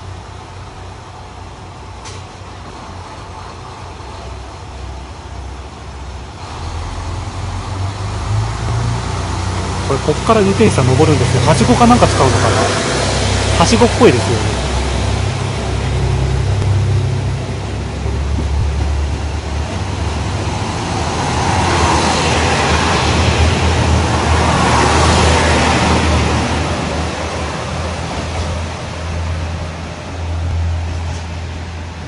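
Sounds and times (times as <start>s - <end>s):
diesel train engine drone: 0.0s - 32.0s.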